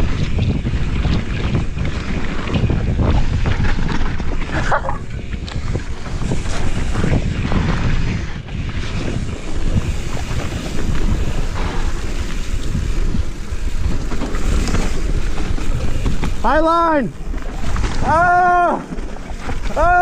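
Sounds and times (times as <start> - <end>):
bike knocking and rattling: 0.0 - 20.0
low rumble of tyres on dirt: 0.0 - 20.0
wind buffeting microphone: 0.0 - 20.0.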